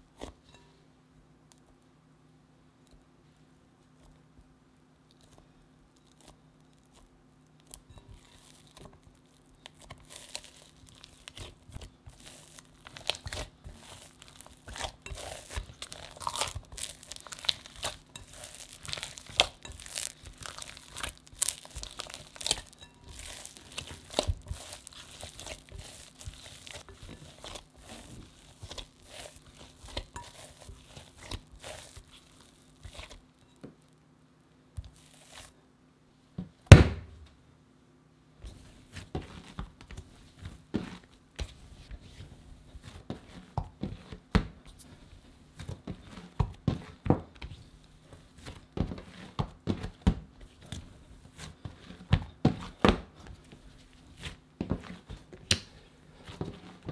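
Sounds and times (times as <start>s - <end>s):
hands kneading dough: 0.0s - 35.7s, 38.4s - 56.9s.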